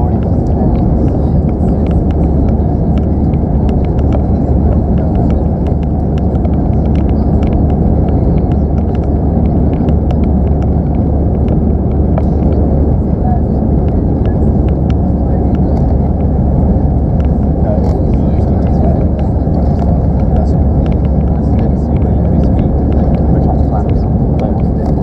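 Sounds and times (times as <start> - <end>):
jet engine and airflow rumble: 0.0 - 25.0.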